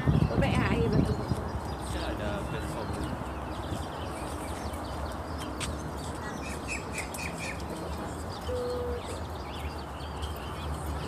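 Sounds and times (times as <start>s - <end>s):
wild birds chirping: 0.0s - 11.0s.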